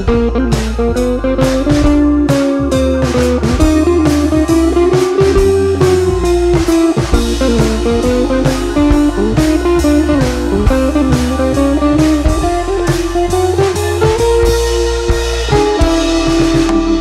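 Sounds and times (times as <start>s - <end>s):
blues guitar with bass and drums: 0.0s - 17.0s.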